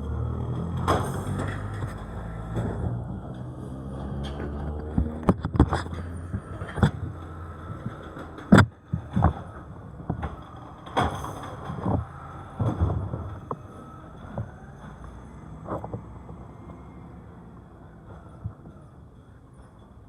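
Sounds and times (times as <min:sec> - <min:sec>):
garbage truck engine hum: 0:00.0 - 0:20.0.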